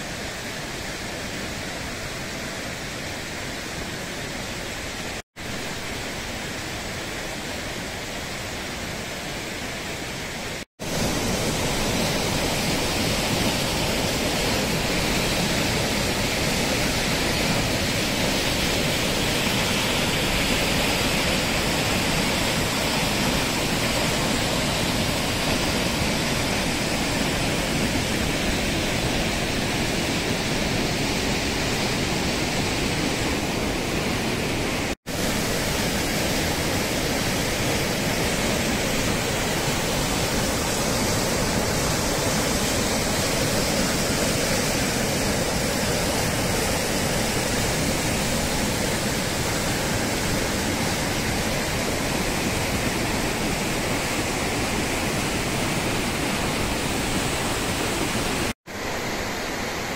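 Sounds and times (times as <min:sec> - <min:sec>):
mountain torrent rushing: 0:00.0 - 0:59.9.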